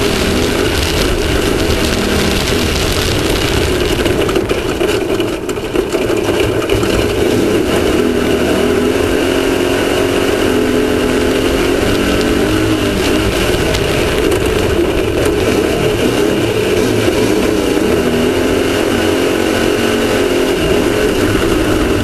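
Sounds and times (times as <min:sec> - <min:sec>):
constant noisy din: 0:00.0 - 0:22.0
race vehicle engine under throttle: 0:00.0 - 0:22.0.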